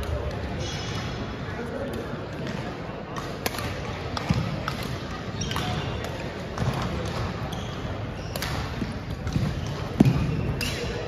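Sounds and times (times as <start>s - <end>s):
chatter in gym hall: 0.0s - 11.0s
rackets striking shuttlecock: 1.8s - 11.0s.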